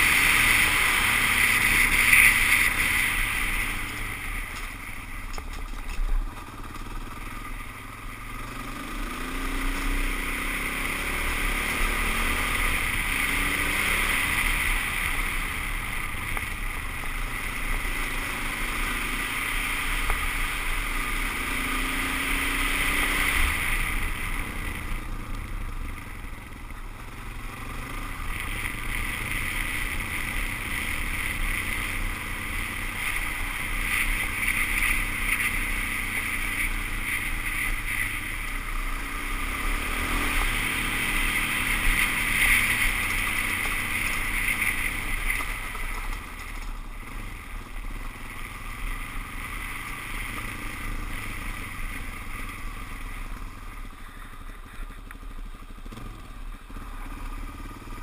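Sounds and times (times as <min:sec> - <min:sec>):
motorcycle engine running: 0:00.0 - 0:58.0
road noise: 0:00.0 - 0:58.0.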